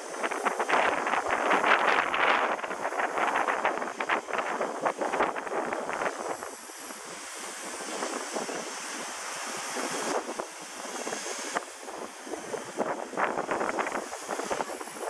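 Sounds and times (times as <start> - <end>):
rc helicopter motor whine: 0.0 - 15.0
wind buffeting microphone: 0.0 - 15.0.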